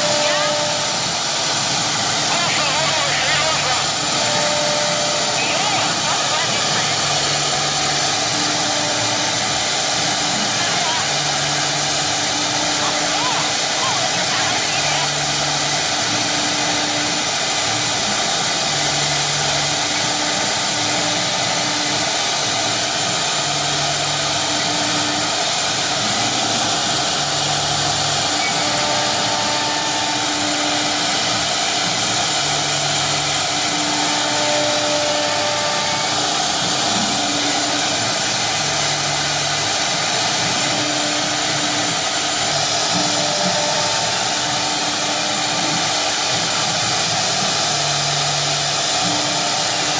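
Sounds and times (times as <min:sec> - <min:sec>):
cnc router rushing noise: 0:00.0 - 0:49.9.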